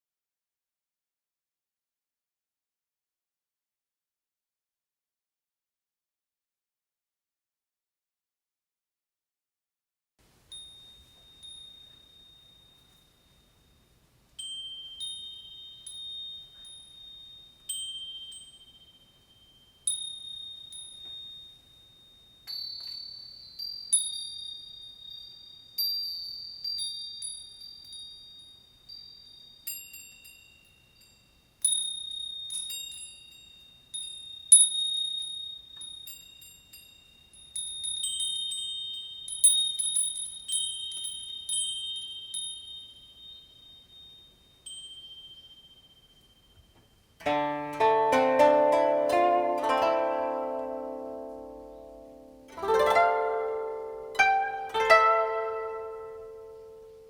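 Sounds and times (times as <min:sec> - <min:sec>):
wind chimes ringing: 0:10.5 - 0:57.0.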